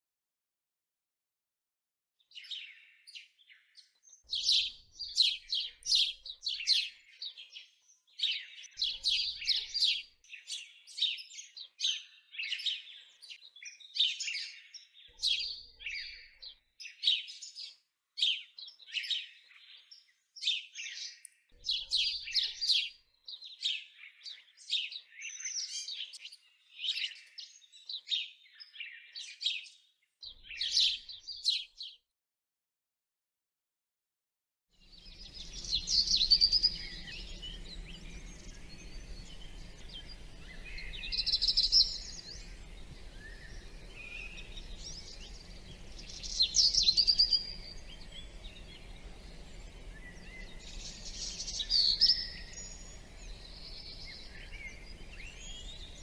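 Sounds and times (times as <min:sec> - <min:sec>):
birds chirping and singing: 0:02.3 - 0:32.0, 0:34.9 - 0:56.0.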